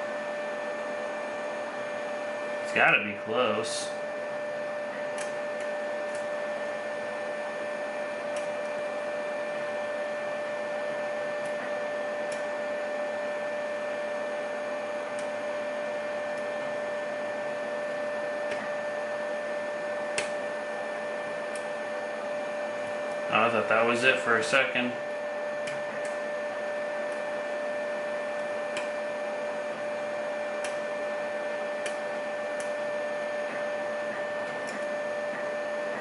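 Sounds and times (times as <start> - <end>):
steady electrical hum with whine: 0.0 - 36.0.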